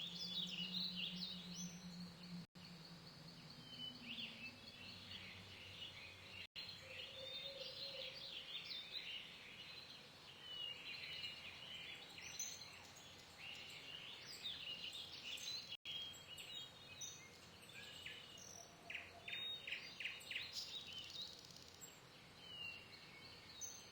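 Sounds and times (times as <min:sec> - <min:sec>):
small birds chirping and singing: 0:00.0 - 0:23.9.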